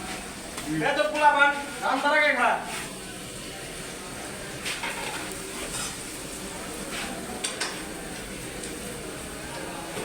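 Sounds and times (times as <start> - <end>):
fish sizzling in a frying pan: 0.0 - 10.0.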